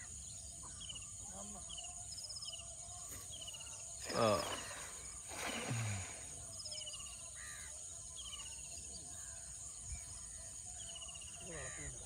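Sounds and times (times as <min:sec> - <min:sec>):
birds chattering: 0:00.0 - 0:12.0.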